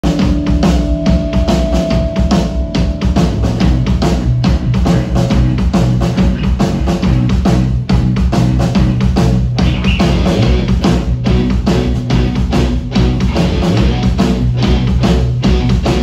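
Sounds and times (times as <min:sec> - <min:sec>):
drum hits: 0:00.0 - 0:16.0
live rock band playing: 0:00.0 - 0:16.0
low bass line: 0:00.1 - 0:16.0.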